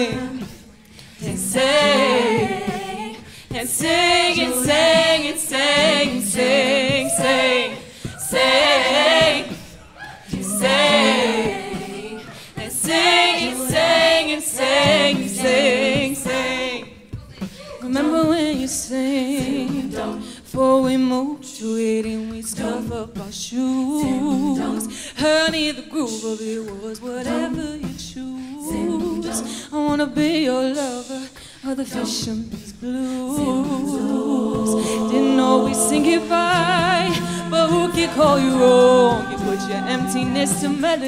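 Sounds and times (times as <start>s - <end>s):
female vocal harmonies: 0.0s - 41.0s.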